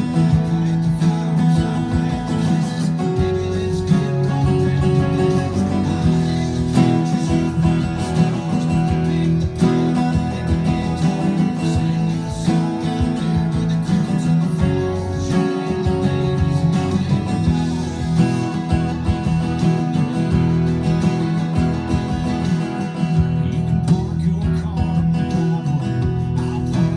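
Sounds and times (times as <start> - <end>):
acoustic guitar strummed: 0.0 - 26.9.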